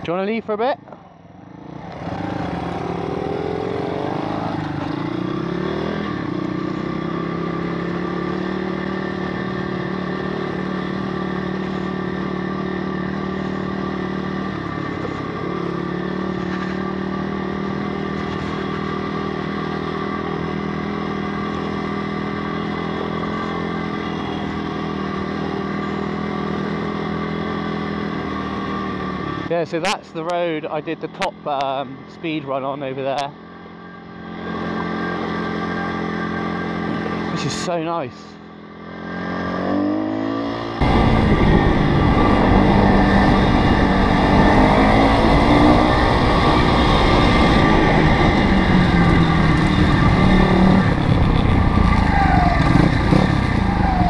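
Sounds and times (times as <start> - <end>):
pit bike engine revving: 1.6 - 38.0, 38.7 - 54.0.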